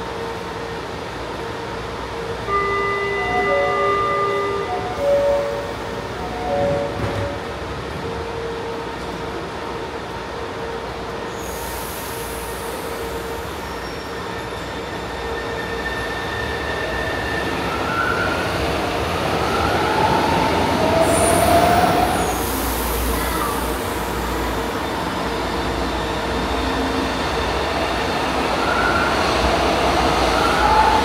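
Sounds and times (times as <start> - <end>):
metro train rumble: 0.0 - 31.0.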